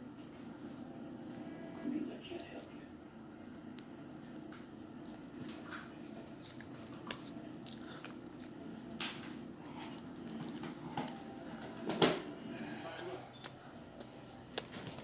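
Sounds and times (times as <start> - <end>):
child chewing: 0.0 - 15.0
steady low hum: 0.0 - 15.0.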